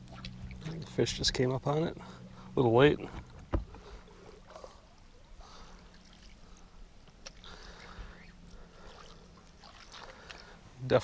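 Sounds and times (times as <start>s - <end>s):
low steady hum: 0.0s - 11.0s
water sloshing and trickling: 0.0s - 11.0s.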